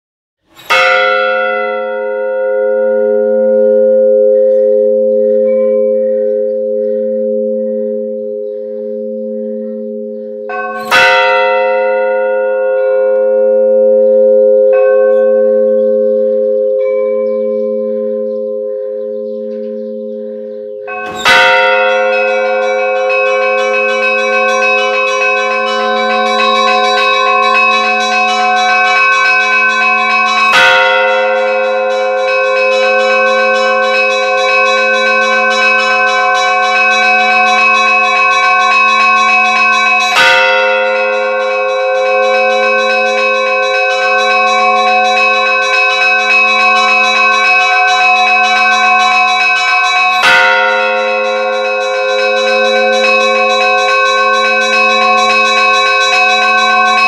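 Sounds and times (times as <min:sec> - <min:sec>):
big church bell ringing: 0:00.5 - 0:57.0
higher bell strokes: 0:00.5 - 0:57.0
small bells pealing rapidly: 0:00.5 - 0:57.0.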